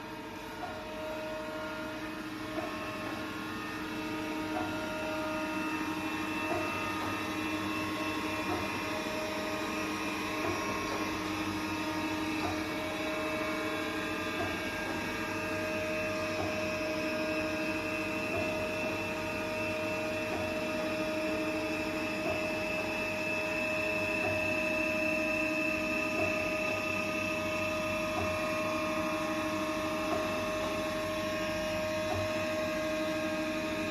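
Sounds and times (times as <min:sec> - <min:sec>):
grinding machine hum and whine: 0:00.0 - 0:33.9.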